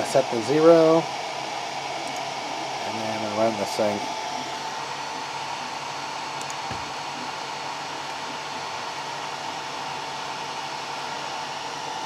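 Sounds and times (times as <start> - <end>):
high whine: 0.0 - 12.0
small cooling fan whirring: 0.0 - 12.0.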